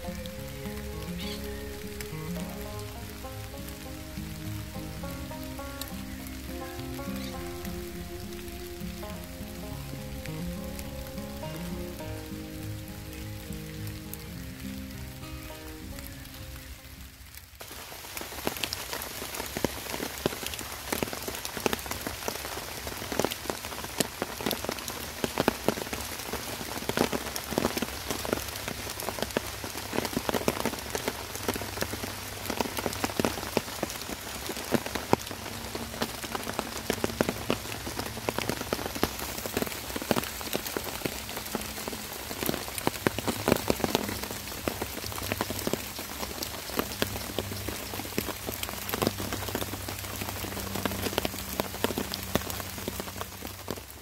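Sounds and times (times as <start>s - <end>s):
rain on a tarp: 0.0s - 54.0s.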